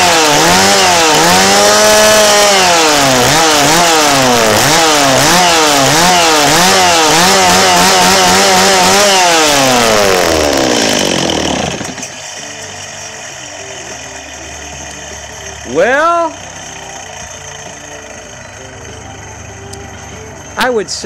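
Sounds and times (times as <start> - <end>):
chainsaw revving: 0.0 - 20.8.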